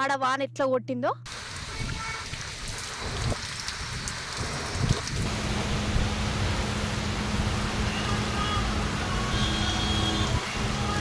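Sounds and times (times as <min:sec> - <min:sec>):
heavy rain pouring: 0:01.3 - 0:11.0
vehicles driving on wet road: 0:01.6 - 0:11.0.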